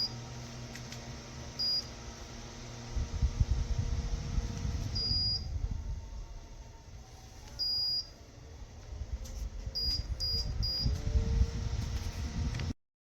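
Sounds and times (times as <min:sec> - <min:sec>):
fan running: 0:00.0 - 0:12.8.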